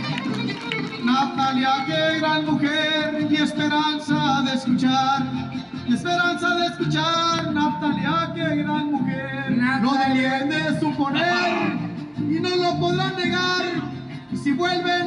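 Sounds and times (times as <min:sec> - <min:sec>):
string trio playing folk music: 0:00.0 - 0:15.0
men singing: 0:01.0 - 0:15.0.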